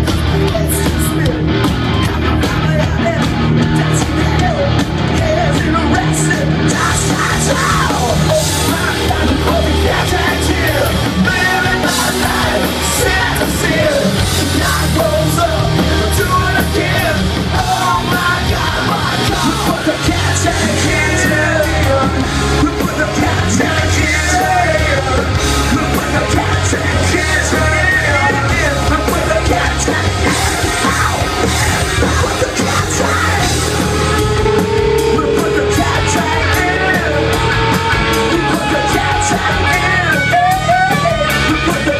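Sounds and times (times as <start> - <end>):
electric guitars: 0.0 - 41.9
hard rock band playing: 0.0 - 41.9
singer shouting vocals: 0.0 - 41.9.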